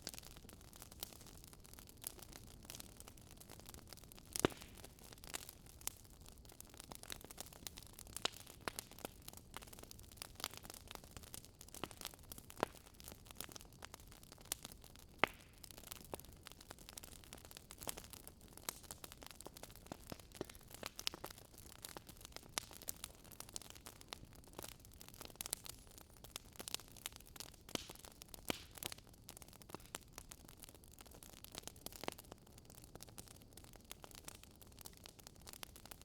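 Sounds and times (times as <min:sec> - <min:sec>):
bonfire crackling and popping: 0:00.0 - 0:36.0.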